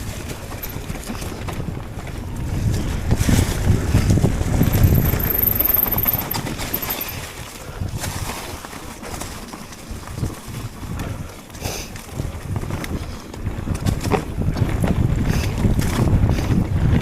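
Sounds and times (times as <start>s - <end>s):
mountain bike rattling on trail: 0.0s - 17.0s
wind buffeting microphone: 0.0s - 17.0s.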